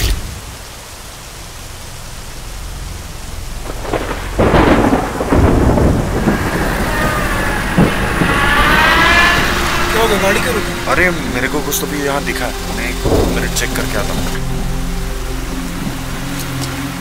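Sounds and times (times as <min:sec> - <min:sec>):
steady rain: 0:00.0 - 0:17.0
thunder rumbling: 0:01.5 - 0:16.3.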